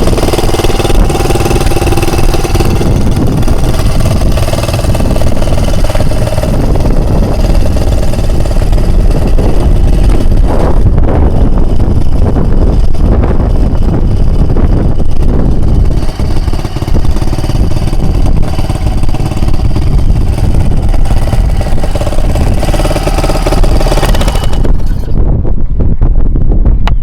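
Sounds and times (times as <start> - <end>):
outboard motor running: 0.0 - 25.2
wind buffeting microphone: 0.0 - 27.0.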